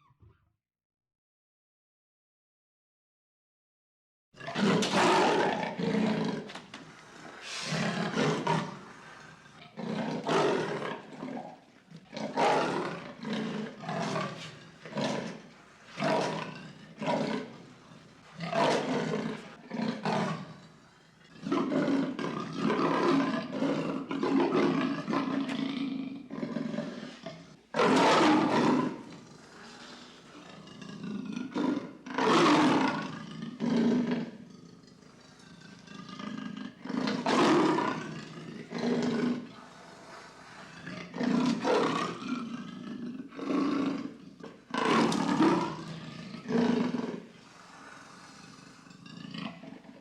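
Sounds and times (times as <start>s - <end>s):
lion roaring: 4.4s - 50.0s.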